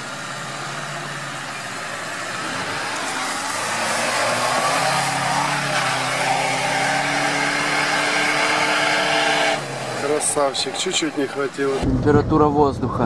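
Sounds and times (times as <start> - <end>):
engine revving high: 0.0 - 11.9.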